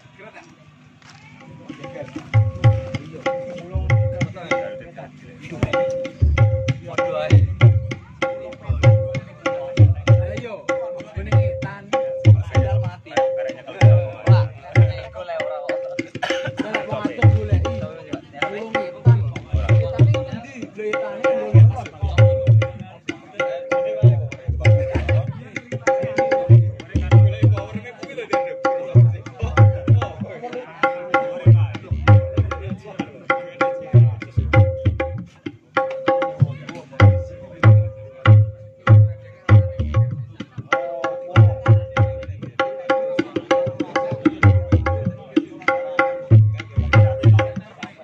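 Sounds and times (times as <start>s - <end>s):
percussion-led music: 0.0s - 48.0s.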